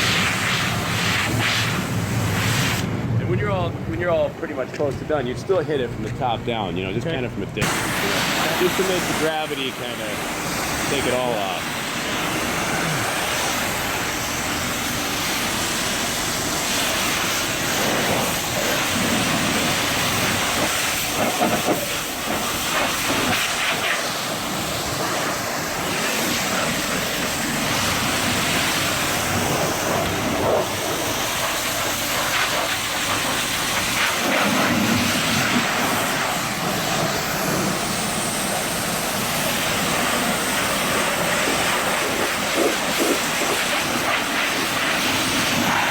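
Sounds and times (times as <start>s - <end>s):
pressure washer spraying water: 0.0s - 2.9s, 7.6s - 45.9s.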